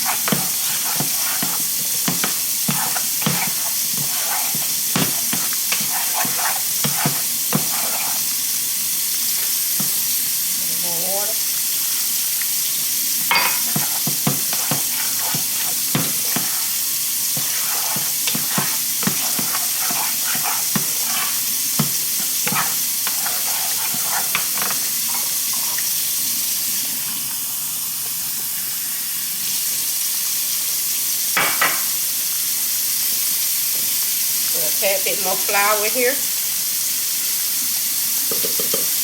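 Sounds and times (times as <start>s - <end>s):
gravy sizzling in a pan: 0.0s - 39.0s.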